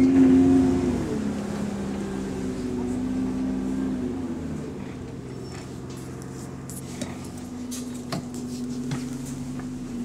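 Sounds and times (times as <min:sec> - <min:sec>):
bus engine and fan droning: 0:00.0 - 0:10.0.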